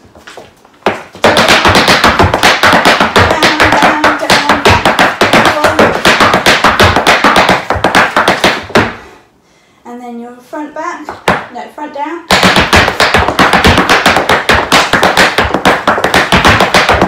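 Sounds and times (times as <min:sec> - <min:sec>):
hard shoes tapping on floor: 0:00.0 - 0:09.0, 0:11.1 - 0:11.5, 0:12.3 - 0:17.0.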